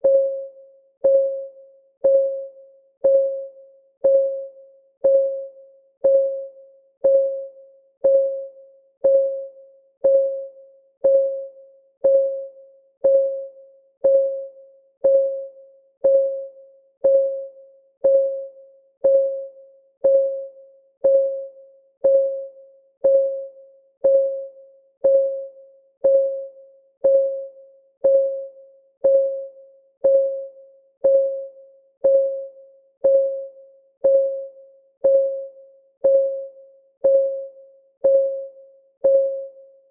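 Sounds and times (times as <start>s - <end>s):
timer ticking: 1.0s - 39.6s.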